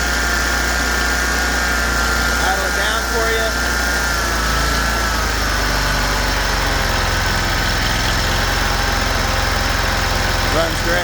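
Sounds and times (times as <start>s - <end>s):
mower engine idling: 0.0s - 11.0s.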